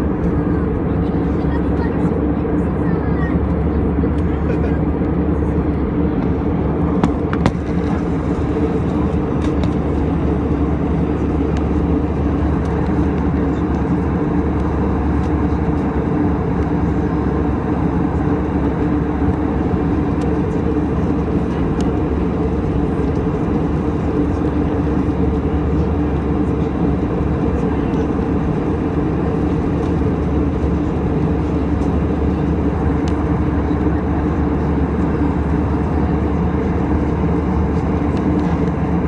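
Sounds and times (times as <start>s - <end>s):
airplane cabin engine roar: 0.0s - 39.0s.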